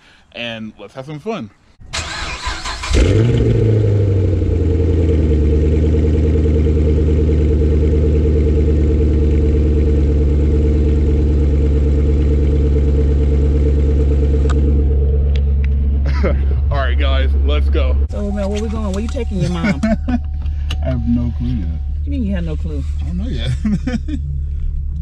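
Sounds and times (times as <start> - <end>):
car engine starting and idling: 1.8 - 25.0.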